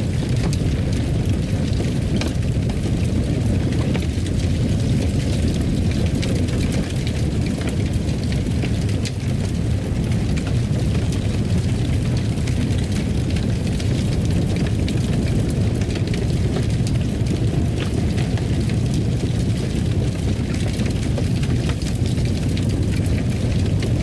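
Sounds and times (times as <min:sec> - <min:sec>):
fire crackles and pops: 0:00.0 - 0:24.0
fireplace fire rumble: 0:00.0 - 0:24.0.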